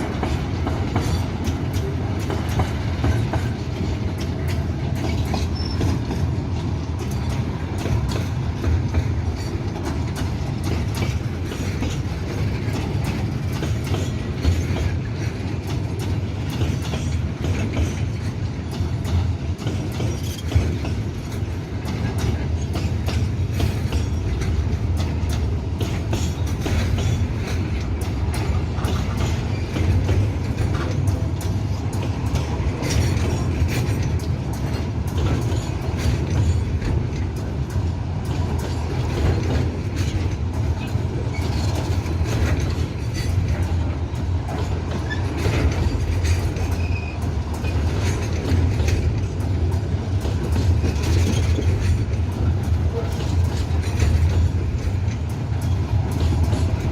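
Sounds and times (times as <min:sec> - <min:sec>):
freight train rumbling: 0:00.0 - 0:56.9
wheels clicking over rail joints: 0:00.0 - 0:56.9.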